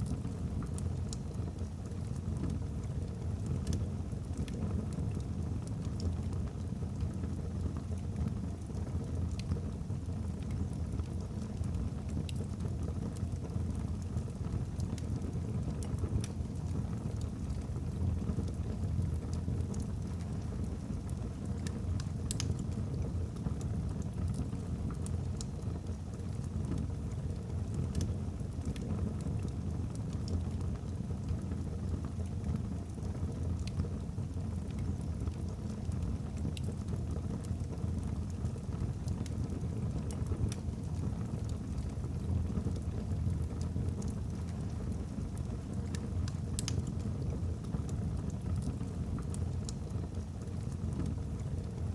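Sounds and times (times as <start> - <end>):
fire flames rumbling: 0.0 - 51.9.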